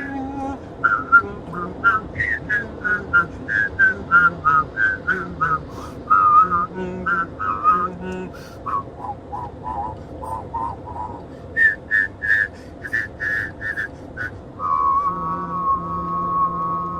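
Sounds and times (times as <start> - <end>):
low hummed voice: 0.0 - 16.9
person whistling a melody: 0.8 - 7.9, 8.6 - 16.9.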